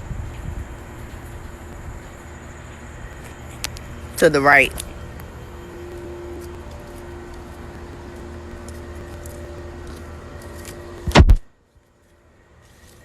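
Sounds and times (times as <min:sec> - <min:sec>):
faint steady tone: 0:00.0 - 0:13.0
low background hum: 0:00.0 - 0:13.0.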